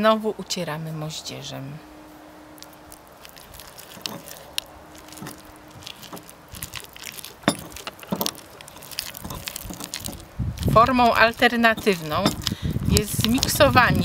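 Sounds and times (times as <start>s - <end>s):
pestle grinding in stone mortar: 2.6s - 14.0s.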